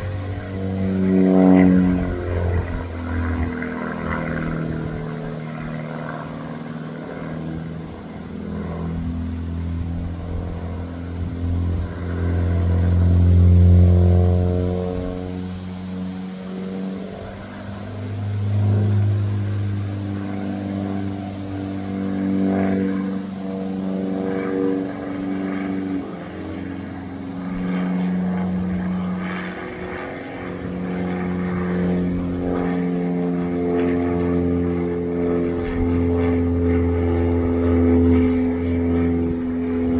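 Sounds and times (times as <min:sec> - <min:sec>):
propeller engine droning overhead: 0:00.0 - 0:39.9.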